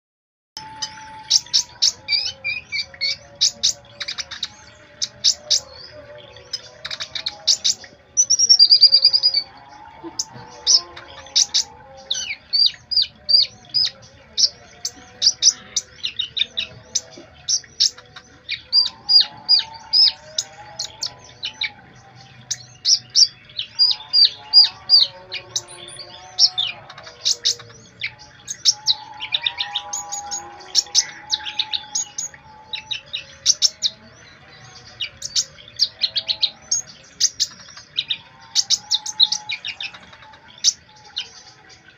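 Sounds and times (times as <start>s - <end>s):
songbird chirping: 0.6s - 41.9s.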